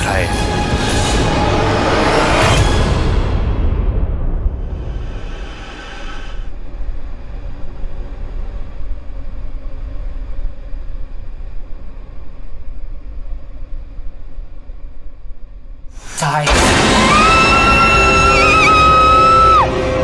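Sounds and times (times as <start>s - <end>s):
low rumbling drone: 0.0s - 20.0s.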